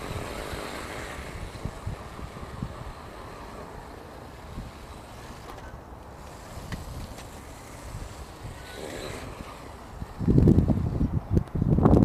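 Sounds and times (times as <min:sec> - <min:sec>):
toy car motors whirring: 0:00.0 - 0:11.2
wind on microphone: 0:00.0 - 0:12.0.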